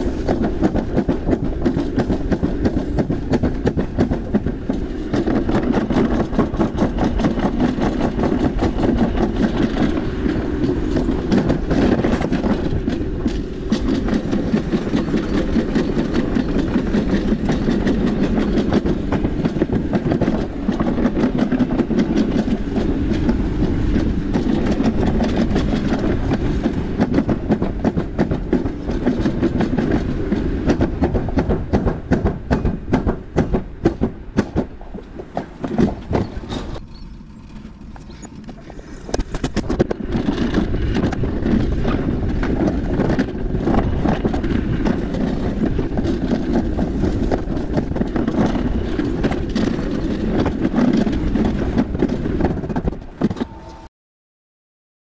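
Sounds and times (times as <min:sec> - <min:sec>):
coaster wheels clattering on rails: 0:00.0 - 0:53.9.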